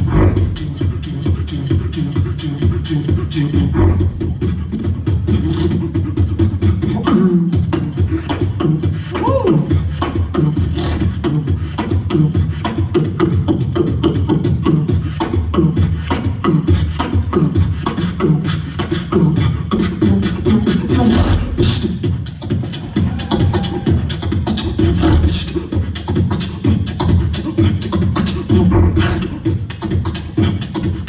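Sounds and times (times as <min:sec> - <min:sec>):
person beatboxing: 0:00.0 - 0:31.0.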